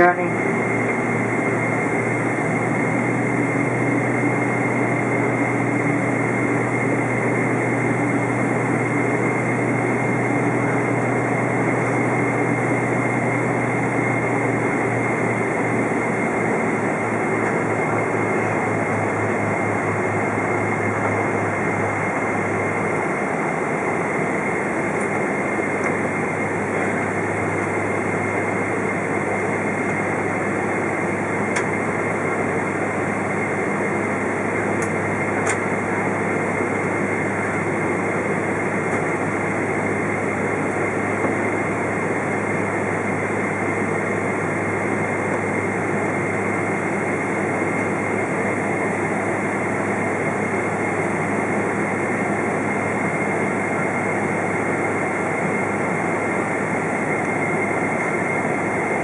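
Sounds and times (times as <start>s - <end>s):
jet engines taxiing cabin hum: 0.0s - 59.0s.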